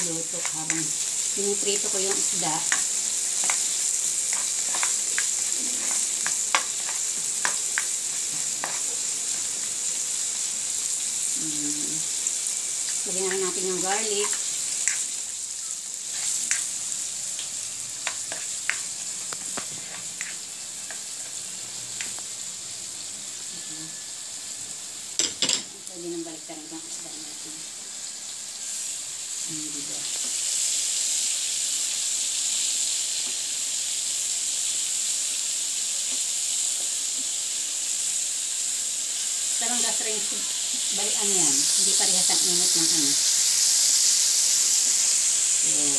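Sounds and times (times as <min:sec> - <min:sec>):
fish frying in oil: 0:00.0 - 0:45.9
onion and garlic sizzling in oil: 0:00.0 - 0:45.9.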